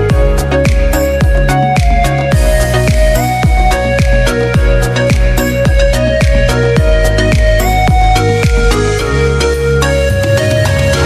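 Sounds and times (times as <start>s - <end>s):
held melody tone: 0.0s - 11.0s.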